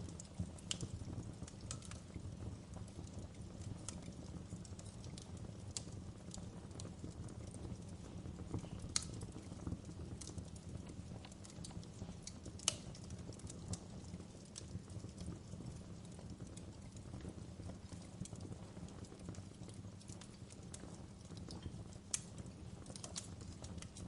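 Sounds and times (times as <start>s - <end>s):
low rumble of burning: 0.0s - 24.0s
sharp pops of fire: 0.0s - 24.0s
wood fire crackling: 0.0s - 24.0s.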